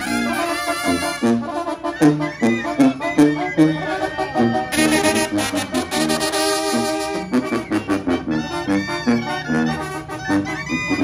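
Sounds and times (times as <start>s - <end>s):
trumpets and tuba melody: 0.0s - 11.0s.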